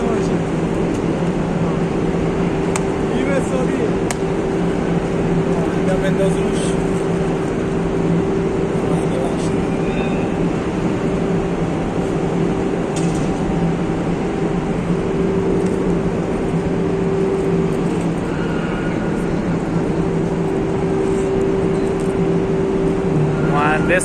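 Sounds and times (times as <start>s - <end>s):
industrial furnace and machinery hum: 0.0s - 24.0s.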